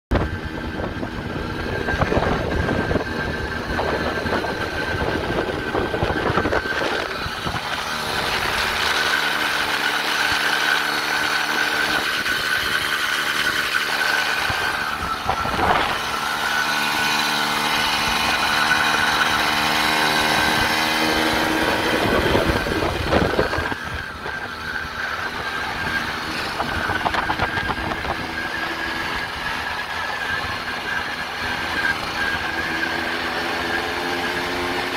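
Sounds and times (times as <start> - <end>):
moped engine running: 0.1 - 34.9.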